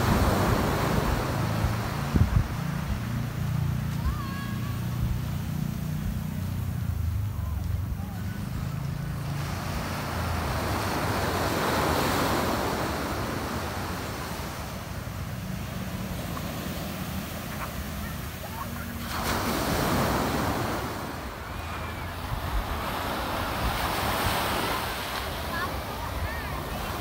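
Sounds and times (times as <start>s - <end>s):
waves breaking on sandy beach: 0.0s - 27.0s.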